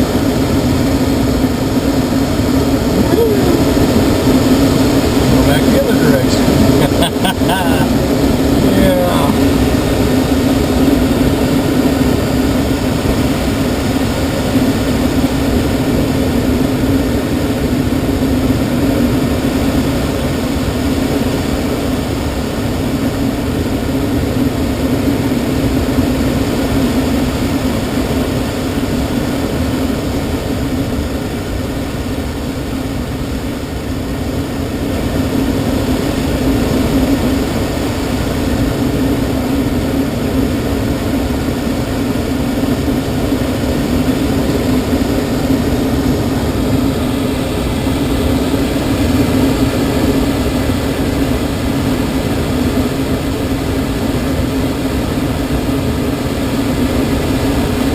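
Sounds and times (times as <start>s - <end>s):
low steady drone: 0.0s - 57.9s
rush of airflow in cockpit: 0.0s - 57.9s.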